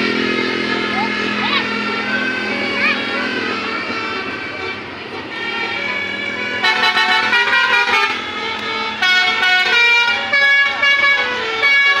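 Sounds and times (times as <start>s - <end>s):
musical bus horn: 0.0s - 12.0s.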